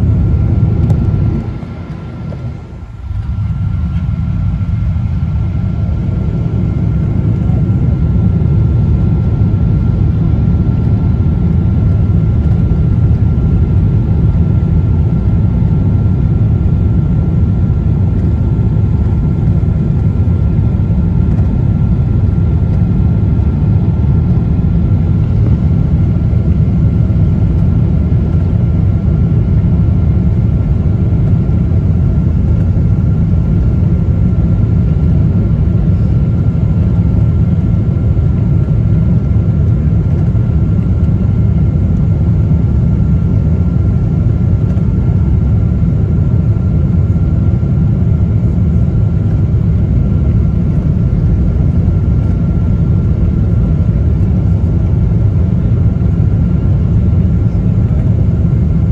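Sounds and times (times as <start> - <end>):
aircraft cabin engine roar: 0.0 - 58.9
thin steady whine: 0.0 - 58.9.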